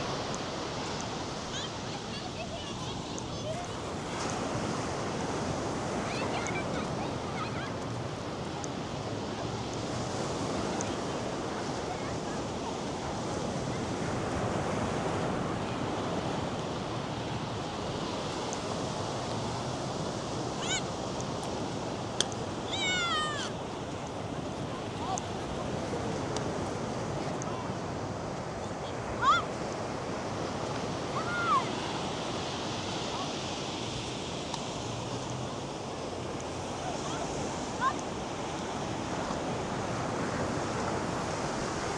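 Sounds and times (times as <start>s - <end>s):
surf breaking on sandy beach: 0.0s - 41.9s.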